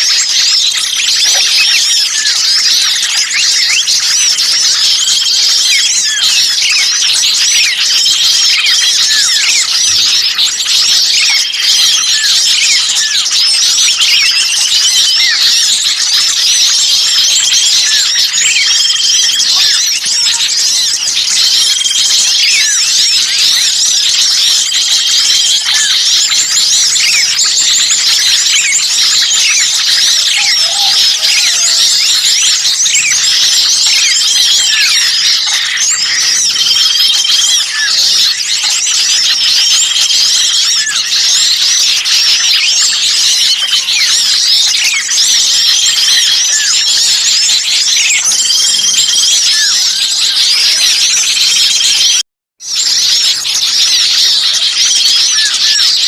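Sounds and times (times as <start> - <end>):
small birds chirping chorus: 0.0 - 56.0.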